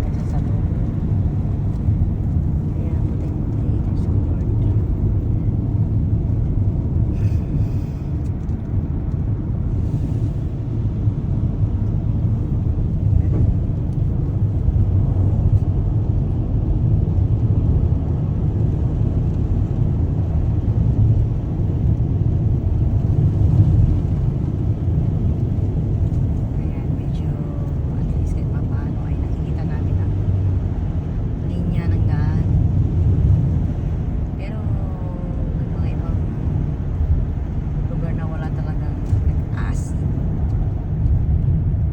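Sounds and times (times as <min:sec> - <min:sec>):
car engine and tyre rumble: 0:00.0 - 0:41.9.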